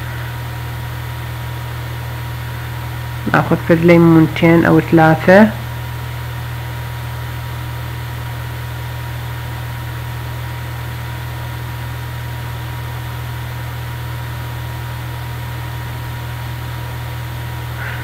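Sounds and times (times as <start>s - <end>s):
steady low electrical hum: 0.0s - 18.0s.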